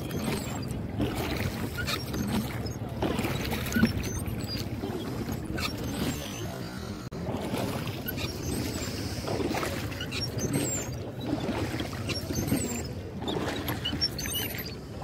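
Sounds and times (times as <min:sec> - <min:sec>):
oar splashes: 0:00.0 - 0:15.0
water lapping against boat: 0:00.0 - 0:15.0.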